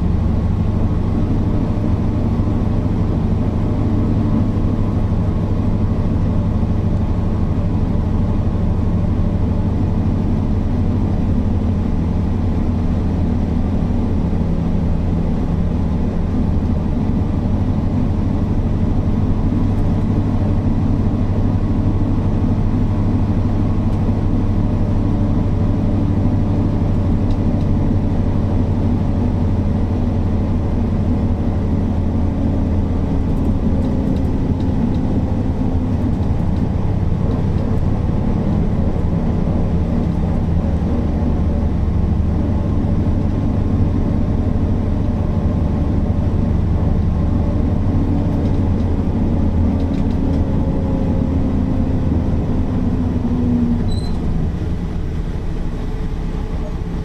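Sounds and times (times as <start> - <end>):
diesel bus engine droning: 0.0 - 57.0.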